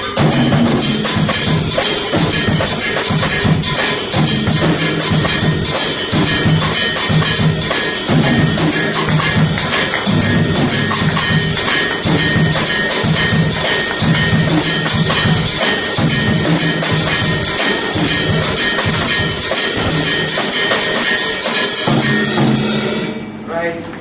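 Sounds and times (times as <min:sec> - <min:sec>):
drum kit latin groove: 0:00.0 - 0:23.4
cymbal wash: 0:00.0 - 0:23.6.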